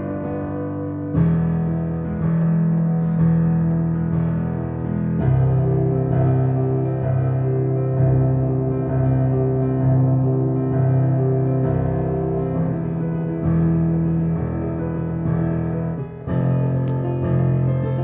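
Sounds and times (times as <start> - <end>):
piano keyboard chords: 0.0 - 18.0.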